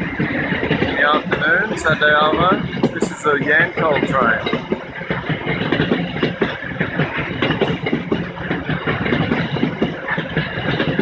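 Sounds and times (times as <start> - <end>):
steady train rumble: 0.0 - 11.0
train wheels clattering on rails: 0.0 - 11.0.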